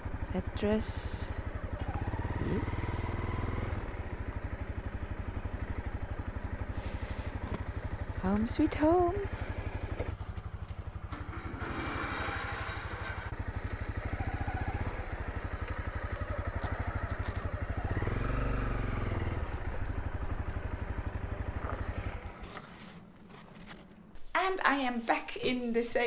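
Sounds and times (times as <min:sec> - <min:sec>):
motorcycle engine running slowly: 0:00.0 - 0:24.2.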